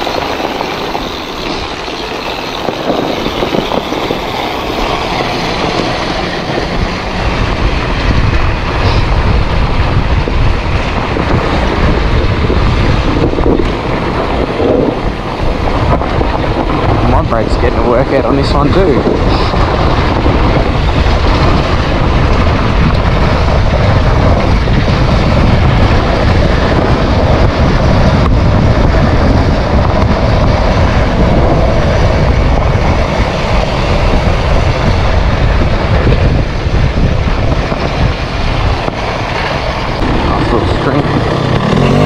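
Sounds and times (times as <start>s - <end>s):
dirt bike engine: 0.0s - 42.0s
wind buffeting microphone: 0.0s - 42.0s.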